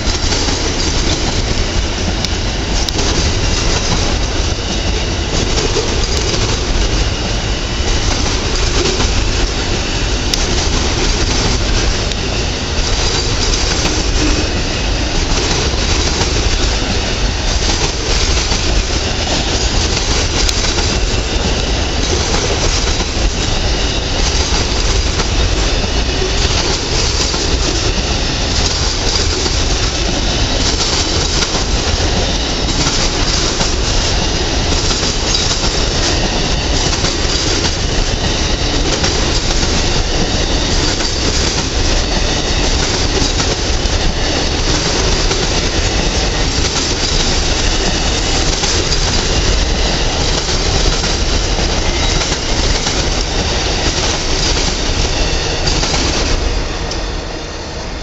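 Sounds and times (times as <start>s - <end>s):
passenger train rolling past: 0.0s - 58.0s.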